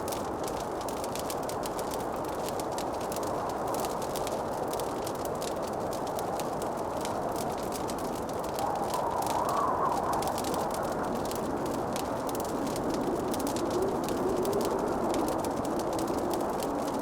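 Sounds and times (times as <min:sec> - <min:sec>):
fire crackling and popping: 0:00.0 - 0:17.0
steady rushing noise: 0:03.1 - 0:17.0.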